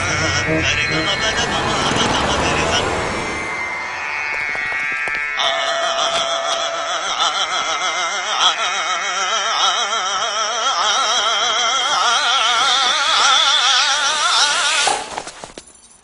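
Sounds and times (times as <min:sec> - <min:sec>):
operatic singing voices: 0:00.0 - 0:03.4, 0:05.4 - 0:14.9.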